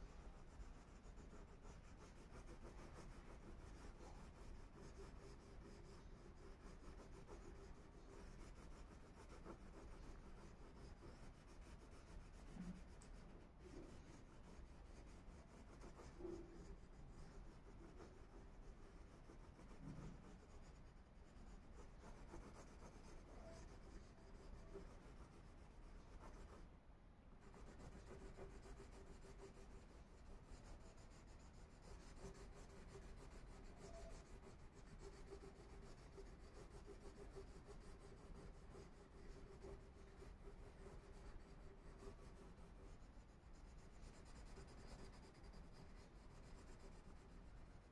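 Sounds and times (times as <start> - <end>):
crayon scratching on paper: 0.0 - 26.7, 27.4 - 47.9
faint steady hum: 0.0 - 47.9.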